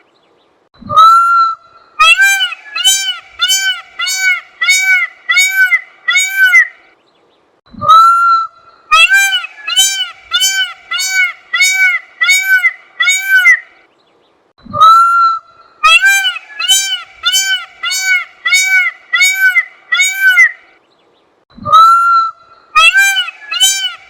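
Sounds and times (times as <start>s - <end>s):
peacock honking calls: 0.9s - 6.8s, 7.8s - 13.7s, 14.8s - 20.6s, 21.7s - 24.0s.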